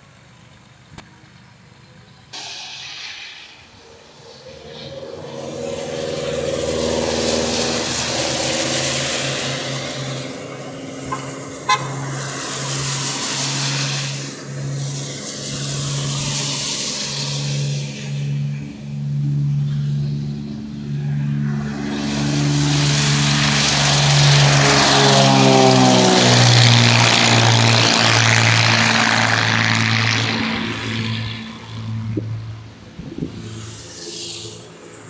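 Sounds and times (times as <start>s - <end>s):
cars passing on wet road: 2.4s - 35.0s.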